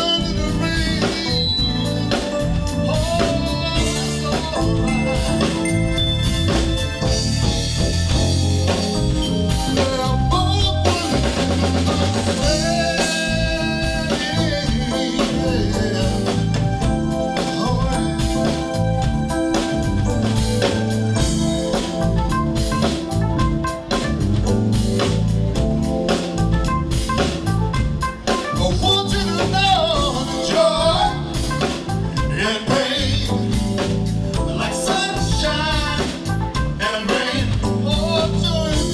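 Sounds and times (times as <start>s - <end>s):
bass: 0.0s - 38.9s
drum kit beat: 0.0s - 38.9s
wavering lead line: 0.2s - 32.3s.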